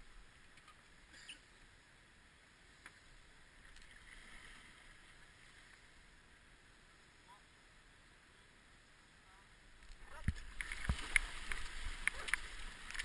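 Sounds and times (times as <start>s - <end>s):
faint rush of river water: 0.0s - 13.0s.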